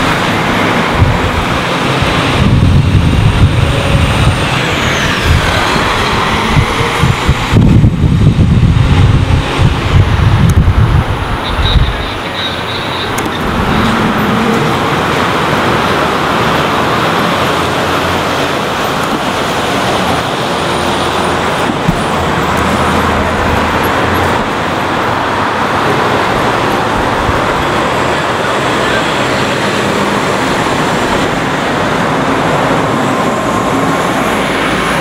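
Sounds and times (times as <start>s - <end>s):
bus engines running: 0.0s - 35.0s
city street traffic: 0.0s - 35.0s.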